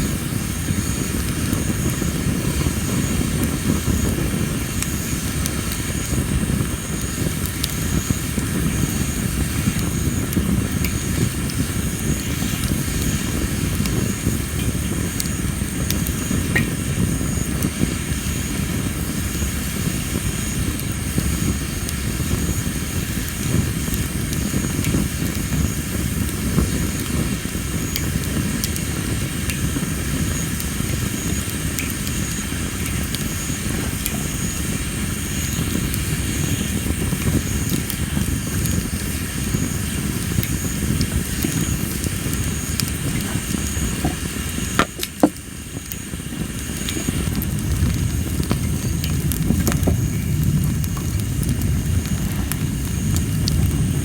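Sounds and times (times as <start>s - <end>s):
fire crackles: 0.0s - 54.0s
insects chirping: 0.0s - 54.0s
wood fire burning: 0.0s - 54.0s.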